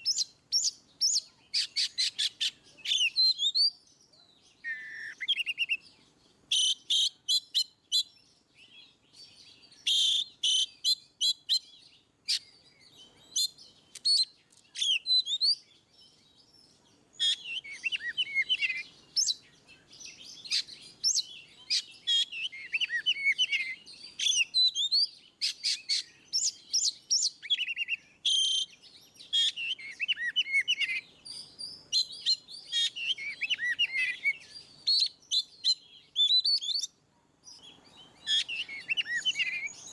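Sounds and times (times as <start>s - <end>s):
bird singing whistled phrases: 0.0s - 16.6s, 17.2s - 39.9s.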